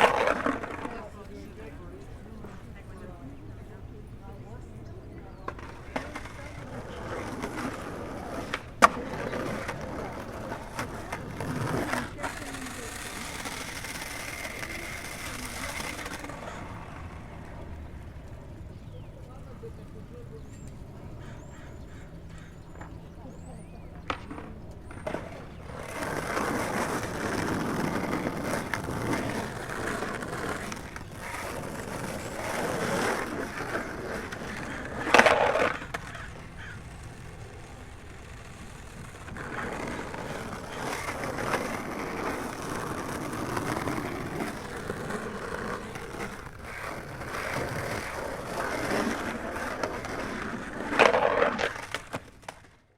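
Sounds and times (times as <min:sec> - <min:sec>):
rolling scraping noise: 0:00.0 - 0:03.3, 0:05.2 - 0:20.8, 0:21.4 - 0:52.8.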